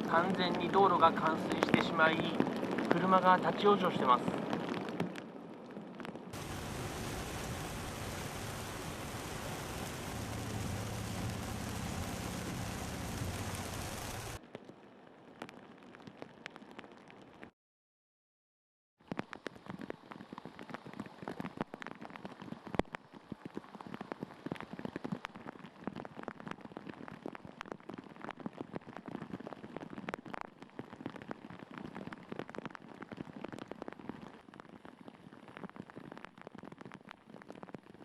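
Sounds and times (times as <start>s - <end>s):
heavy rain on hard surface: 0.0s - 14.5s, 15.3s - 17.4s, 19.1s - 38.0s.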